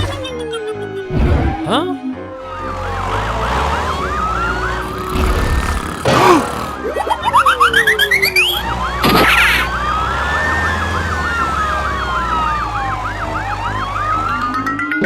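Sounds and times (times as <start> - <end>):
siren yelp: 0.0 - 5.2, 6.8 - 15.0
siren rising chirps: 0.0 - 6.0, 6.8 - 15.0
siren wail: 0.0 - 6.0, 6.7 - 15.0.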